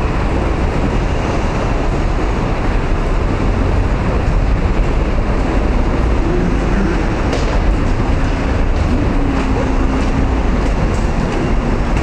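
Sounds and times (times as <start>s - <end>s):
low rumbling station noise: 0.0s - 12.0s.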